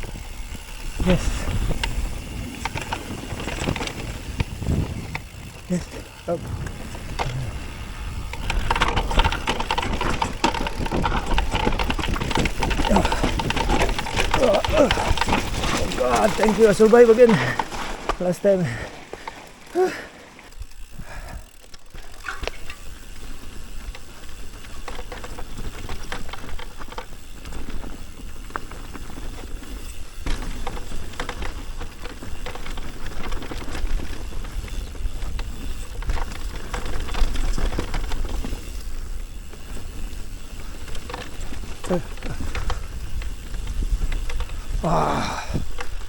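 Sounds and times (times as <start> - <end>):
bike rattling clicks and knocks: 0.0 - 46.0
bike tyre and wind noise: 0.0 - 46.0.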